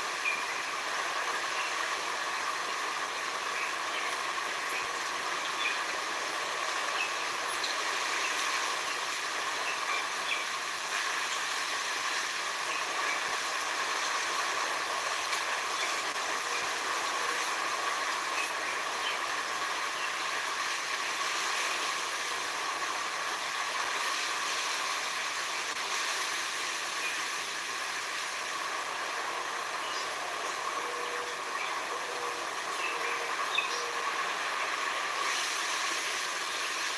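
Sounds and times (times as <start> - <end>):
even outdoor hiss: 0.0 - 36.9.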